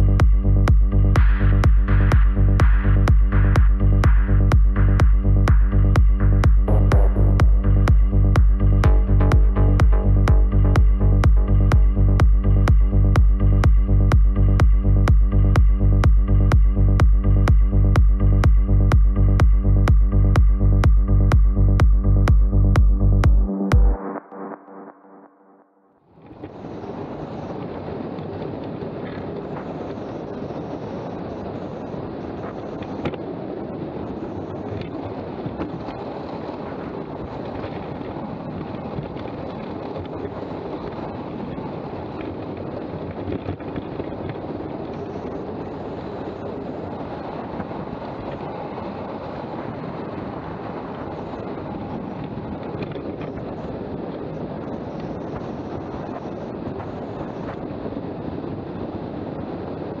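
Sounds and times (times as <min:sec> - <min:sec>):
wind over microphone: 0:00.0 - 0:23.5, 0:26.2 - 1:00.0.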